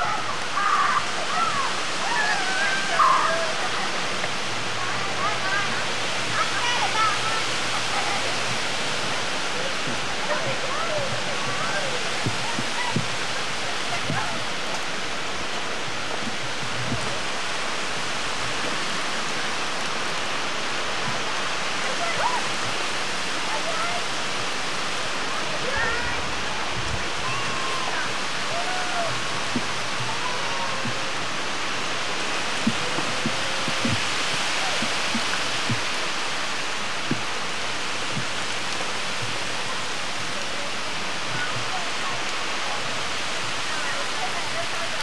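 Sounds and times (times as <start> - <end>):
heavy rain on pavement: 0.0 - 45.0.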